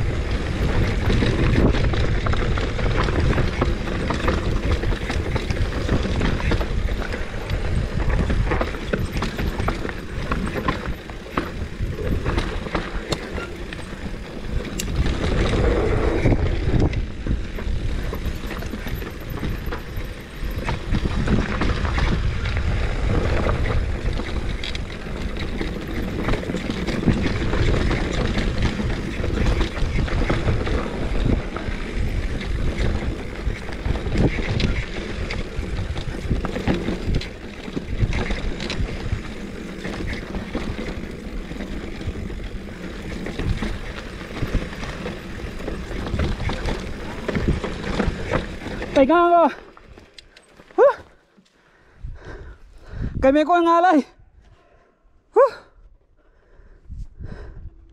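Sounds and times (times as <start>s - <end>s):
wind buffeting microphone: 0.0s - 50.1s, 51.8s - 54.6s, 56.4s - 57.9s
bike knocks and rattles: 0.0s - 51.0s.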